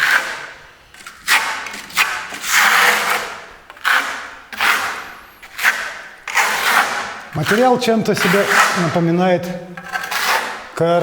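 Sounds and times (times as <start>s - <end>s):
trowel scraping plaster: 0.0s - 11.0s.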